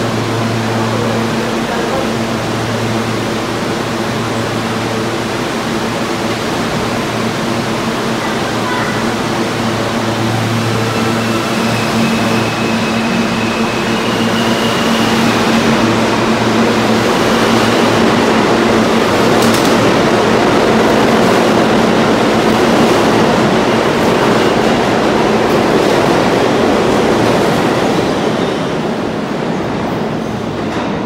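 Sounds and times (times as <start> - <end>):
subway train electric hum: 0.0 - 31.0
wheels rumbling on rail: 0.0 - 31.0.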